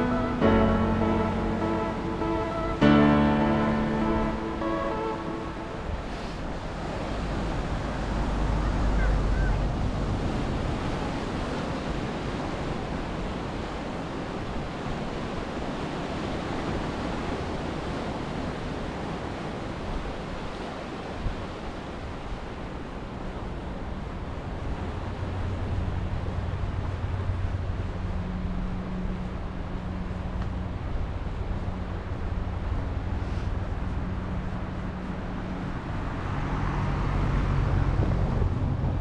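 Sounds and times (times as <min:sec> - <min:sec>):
wind buffeting microphone: 0:04.2 - 0:39.0.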